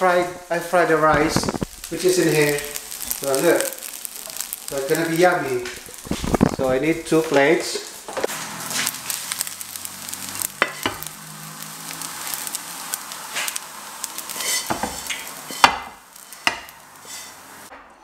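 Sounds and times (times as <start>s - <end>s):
spatula scraping wok: 1.1s - 17.7s.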